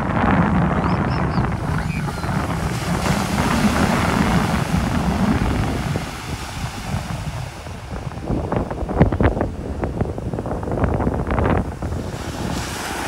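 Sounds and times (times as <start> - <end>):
surf breaking: 0.0 - 13.0
wind buffeting microphone: 0.0 - 13.0.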